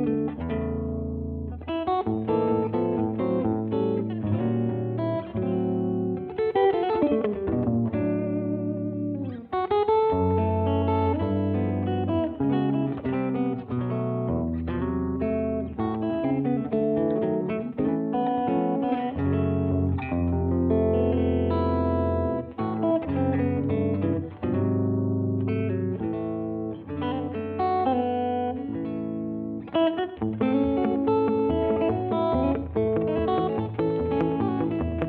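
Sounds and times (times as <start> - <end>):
guitar chords: 0.0 - 35.0
picked guitar melody: 0.0 - 35.0.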